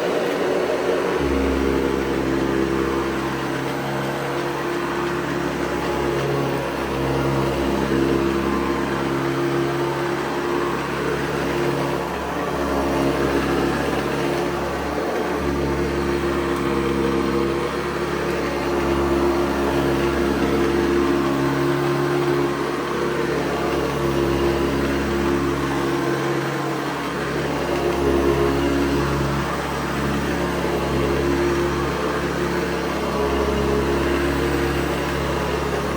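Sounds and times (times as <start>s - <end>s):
upright vacuum running: 0.0s - 35.9s.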